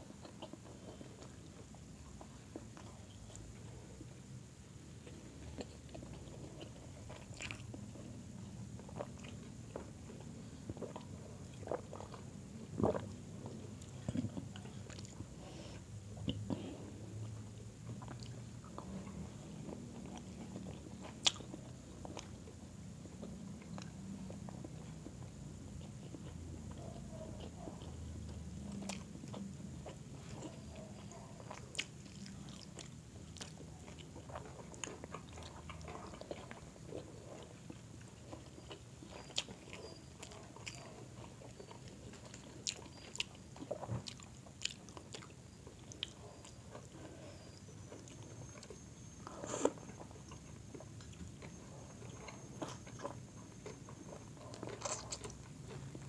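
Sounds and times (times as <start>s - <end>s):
chewing and mouth smacks: 0.1s - 3.7s, 5.0s - 15.5s, 16.2s - 56.0s.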